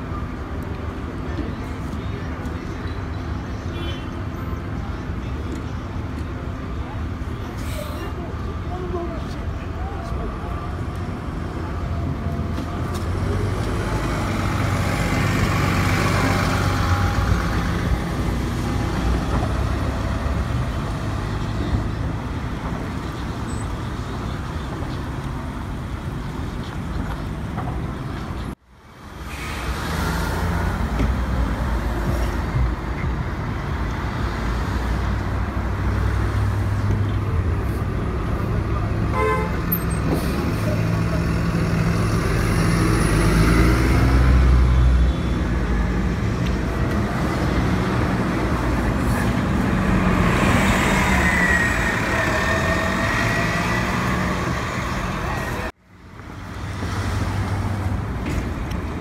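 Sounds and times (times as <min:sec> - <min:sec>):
bus engine hum: 0:00.0 - 0:59.0
street traffic: 0:00.0 - 0:59.0
tyre and road noise: 0:00.0 - 0:59.0.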